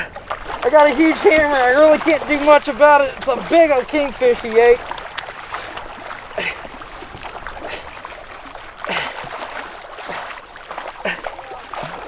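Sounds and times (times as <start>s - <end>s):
steady water noise: 0.0s - 12.0s
water slapping against kayak hull: 0.0s - 12.0s.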